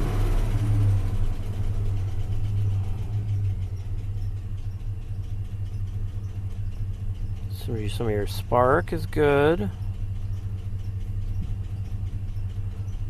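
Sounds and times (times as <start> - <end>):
truck engine idling with misfire: 0.0 - 13.0.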